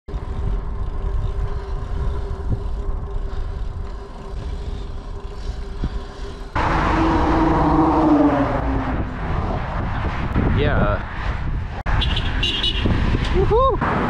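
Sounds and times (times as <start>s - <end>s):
road rumble: 0.1s - 14.0s
wind: 0.1s - 14.0s.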